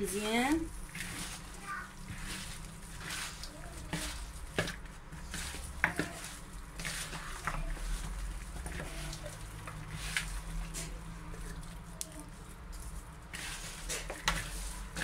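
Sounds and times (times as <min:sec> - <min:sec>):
hands squishing wet meat: 0:00.7 - 0:15.0.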